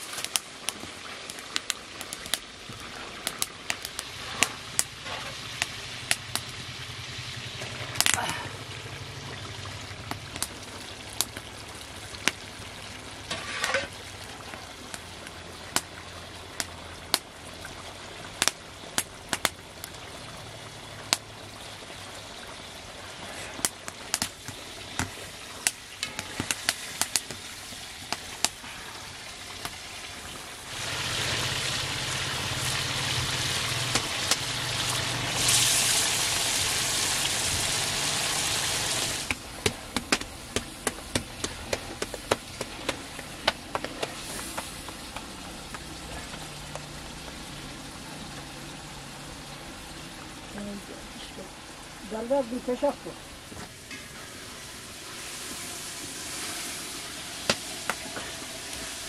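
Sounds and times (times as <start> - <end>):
food sizzling: 0.0 - 59.0.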